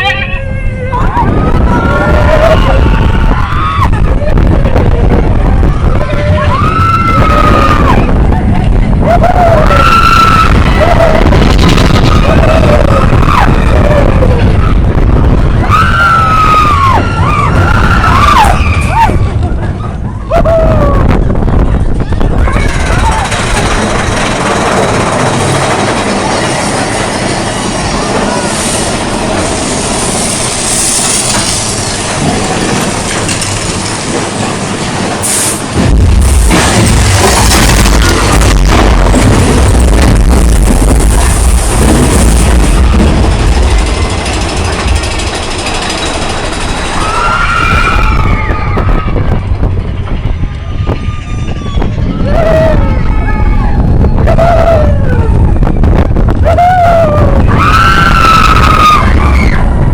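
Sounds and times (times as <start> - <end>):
roller coaster wheels rattling on rail: 0.0 - 59.9.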